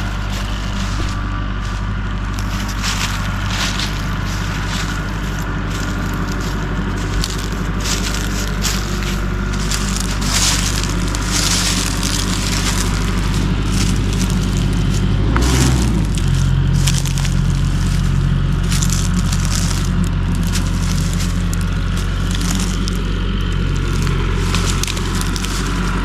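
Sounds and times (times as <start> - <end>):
machine engine running: 0.0 - 26.0
wood cracking and splintering: 0.0 - 26.0.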